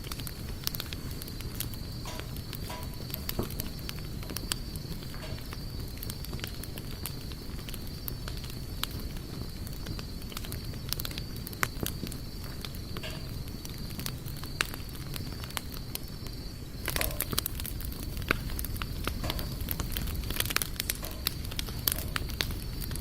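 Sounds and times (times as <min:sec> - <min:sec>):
campfire crackling and popping: 0:00.0 - 0:23.0
fire hissing flare: 0:00.0 - 0:23.0.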